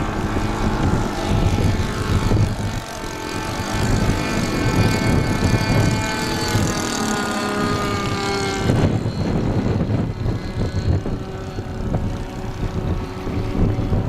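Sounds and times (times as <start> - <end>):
model plane engine buzzing: 0.0 - 14.0
wind rumbling on microphone: 0.0 - 14.0.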